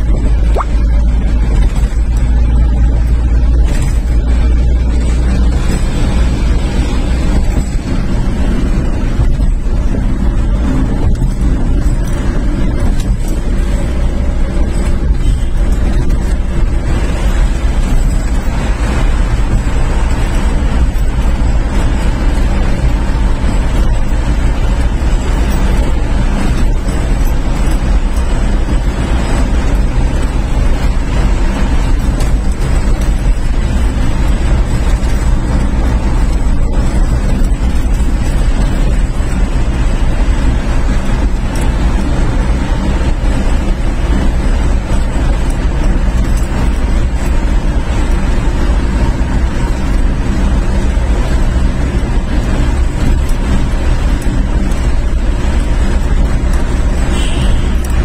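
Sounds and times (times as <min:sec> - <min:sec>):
vehicle engine and tyre rumble: 0:00.0 - 0:58.0.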